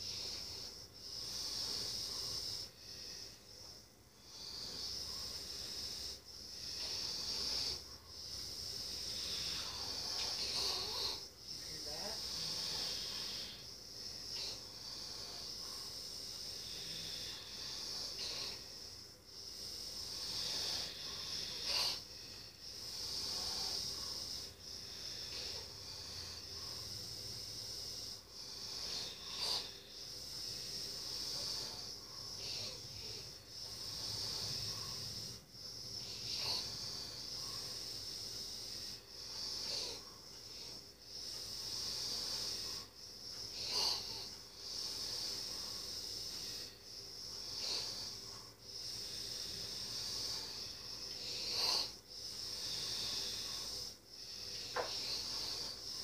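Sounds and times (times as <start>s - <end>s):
sleeping person breathing: 0.0s - 56.0s
snort-like breath: 0.0s - 56.0s.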